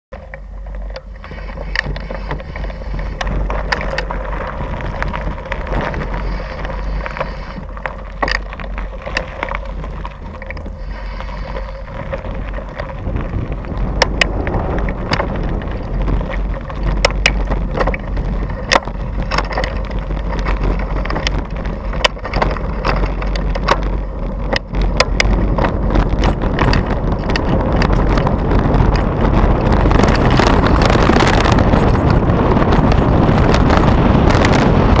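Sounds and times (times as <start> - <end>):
bike rattling over bumps: 0.1 - 35.0
bike tyres rumbling on gravel: 0.1 - 35.0
wind on microphone: 0.4 - 35.0.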